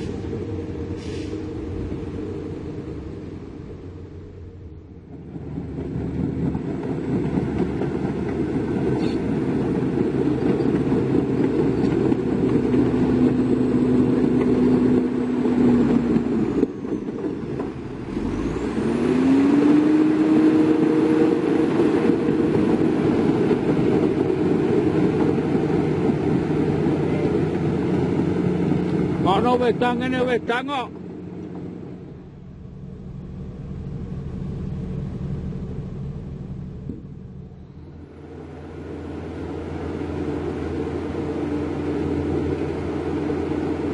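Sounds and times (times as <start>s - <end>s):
heavy diesel engine rumbling: 0.0s - 43.9s.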